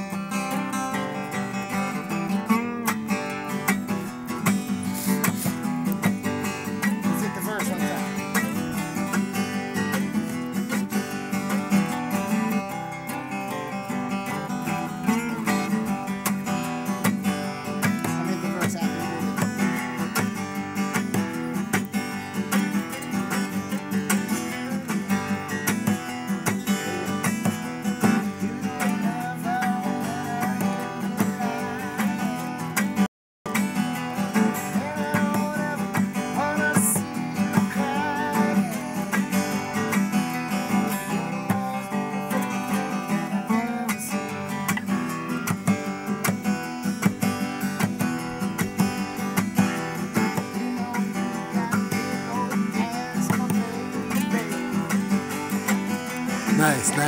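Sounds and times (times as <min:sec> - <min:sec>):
acoustic guitars playing: 0:00.0 - 0:57.0.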